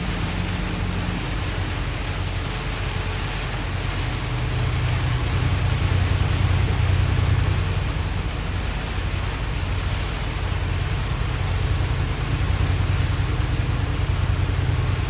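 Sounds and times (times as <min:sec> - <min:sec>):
low engine drone: 0:00.0 - 0:15.0
road noise rushing hiss: 0:00.0 - 0:15.0.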